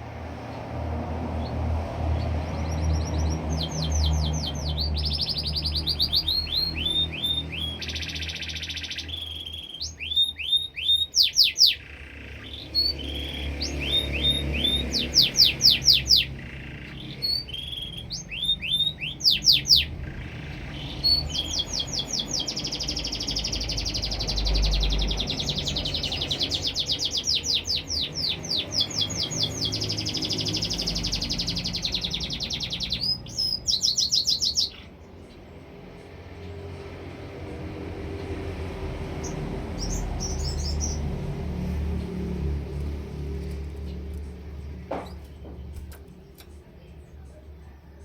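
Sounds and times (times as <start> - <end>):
canary singing: 1.3 - 37.0, 38.2 - 48.0.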